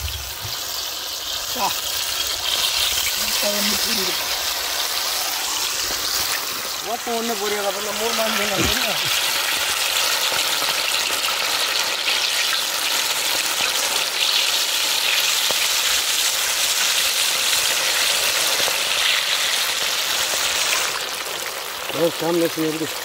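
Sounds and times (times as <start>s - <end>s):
chicken deep-frying in oil: 0.0s - 23.0s.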